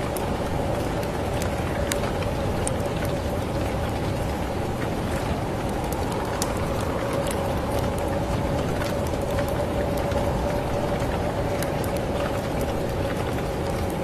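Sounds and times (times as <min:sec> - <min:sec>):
raindrops ticking on surfaces: 0:00.0 - 0:14.0
steady rain hiss: 0:00.0 - 0:14.0.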